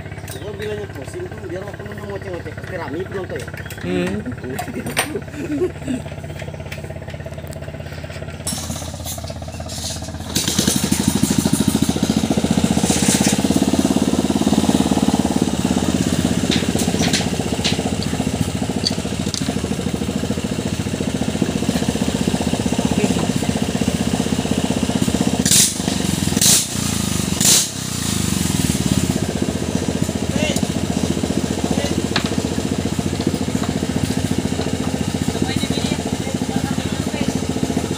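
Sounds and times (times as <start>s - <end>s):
small engine running fast: 0.0s - 37.9s.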